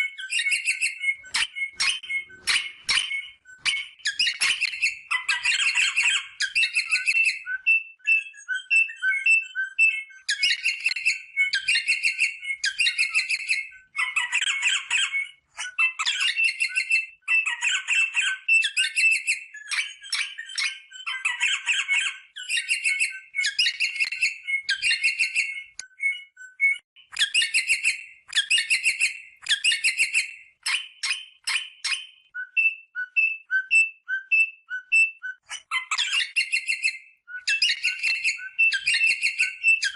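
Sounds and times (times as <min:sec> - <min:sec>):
whistled bird notes: 0:00.0 - 0:39.9.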